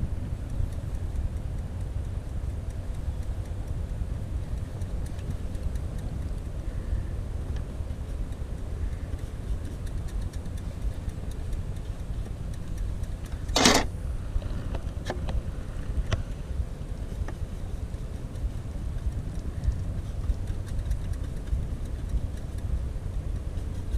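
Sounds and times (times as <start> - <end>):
low outdoor rumble: 0.0 - 23.9
light clicks: 0.3 - 13.9, 16.0 - 23.9.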